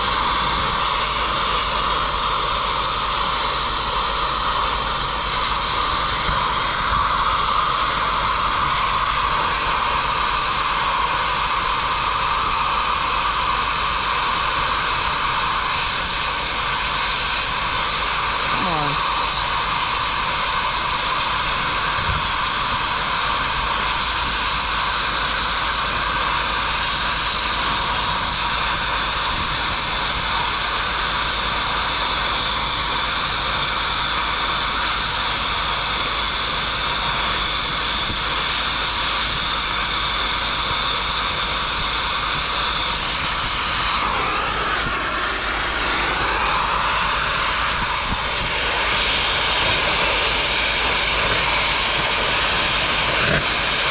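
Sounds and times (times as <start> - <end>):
cutting torch flame hissing: 0.0 - 53.9.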